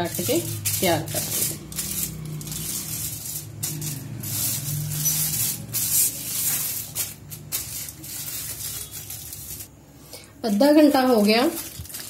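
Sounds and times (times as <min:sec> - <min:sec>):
aluminium foil crinkling: 0:00.0 - 0:09.8, 0:10.4 - 0:12.0.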